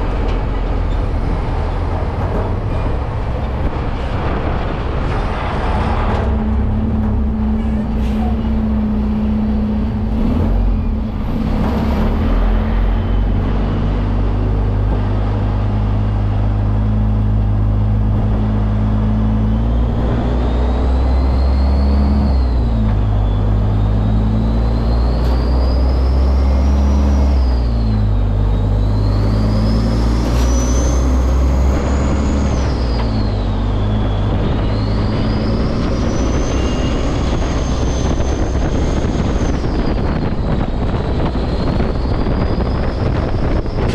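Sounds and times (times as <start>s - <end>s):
diesel truck engine running: 0.0s - 43.9s
high gear whine: 0.0s - 43.9s.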